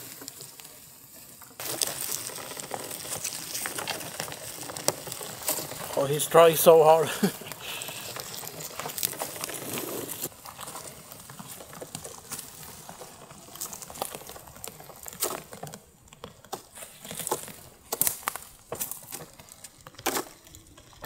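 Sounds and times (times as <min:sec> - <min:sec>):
grass rustling: 0:00.0 - 0:21.0
twigs crackling and snapping: 0:01.4 - 0:21.0
robotic mower: 0:01.6 - 0:21.0.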